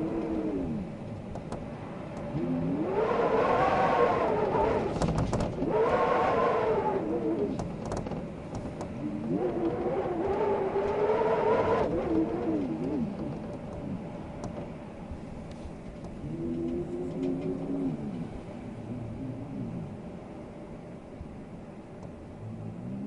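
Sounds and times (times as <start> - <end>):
wind gusts whistling: 0.0 - 23.0.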